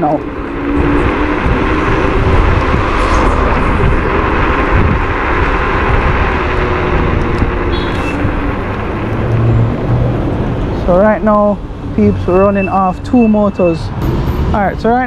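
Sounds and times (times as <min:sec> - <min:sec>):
road noise: 0:00.0 - 0:15.0
wind rushing over microphone: 0:00.0 - 0:15.0.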